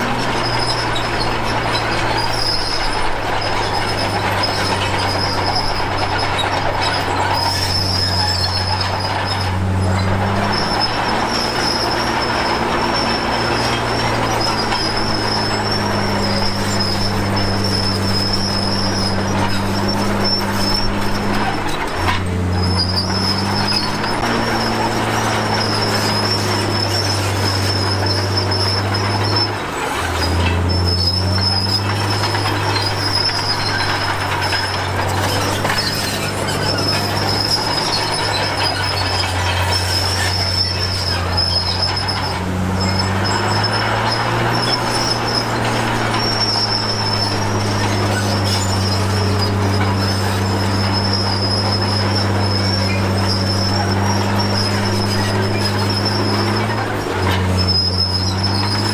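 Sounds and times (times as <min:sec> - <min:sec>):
bulldozer diesel engine under load: 0:00.0 - 0:58.9.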